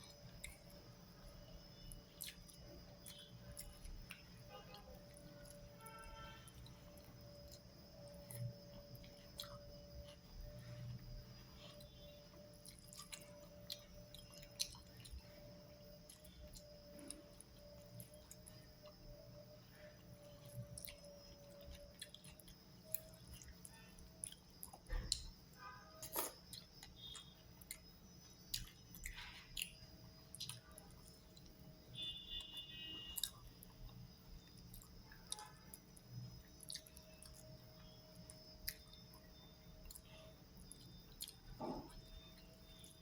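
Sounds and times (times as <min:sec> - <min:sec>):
person chewing food: 0:00.0 - 0:25.4, 0:26.0 - 0:43.0.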